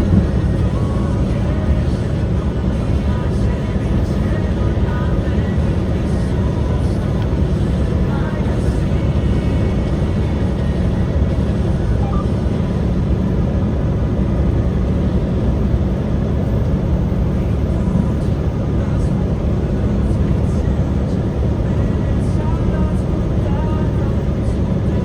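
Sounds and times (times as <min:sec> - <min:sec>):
truck engine and road noise: 0:00.0 - 0:25.0.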